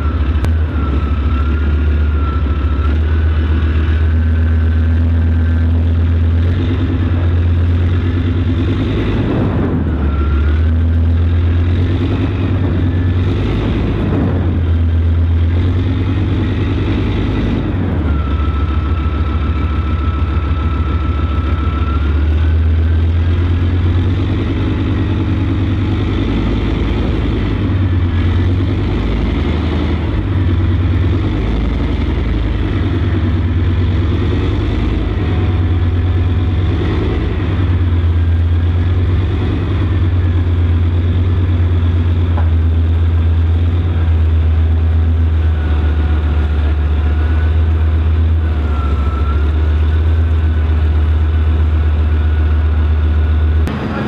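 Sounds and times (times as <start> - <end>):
boat engines droning: 0.0 - 54.0
high whine: 0.0 - 54.0.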